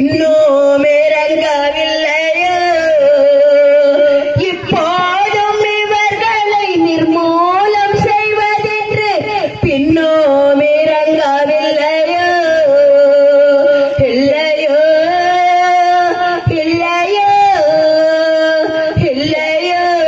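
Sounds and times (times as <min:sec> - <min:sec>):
woman singing into microphone: 0:00.0 - 0:20.0.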